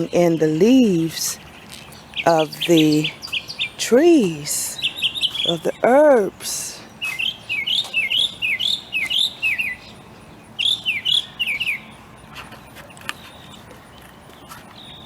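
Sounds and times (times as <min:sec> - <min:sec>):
small bird chirping: 0:00.0 - 0:05.8, 0:06.8 - 0:15.0.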